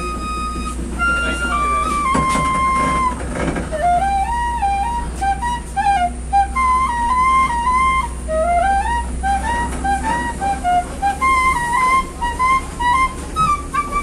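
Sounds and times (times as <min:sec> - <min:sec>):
bamboo flute melody: 0:00.0 - 0:14.0.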